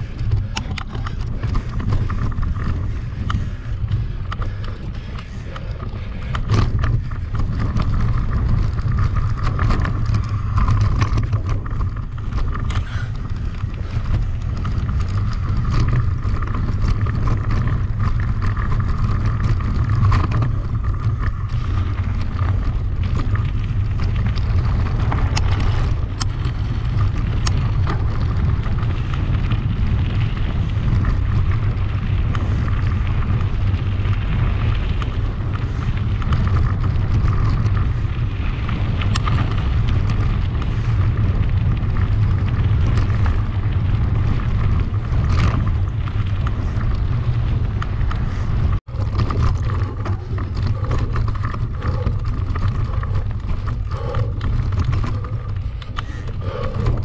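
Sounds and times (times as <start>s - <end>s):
bike rattles and clicks: 0.0s - 57.0s
tyres rumbling: 0.0s - 57.0s
wind buffeting microphone: 0.0s - 57.0s.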